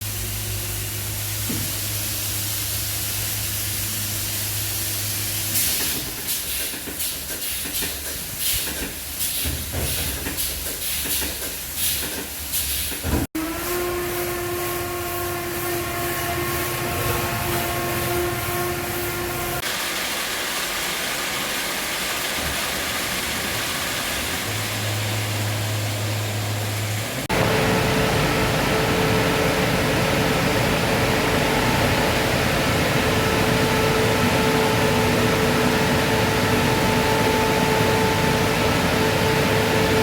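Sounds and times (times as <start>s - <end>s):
car wash machinery hum: 0.0s - 40.0s.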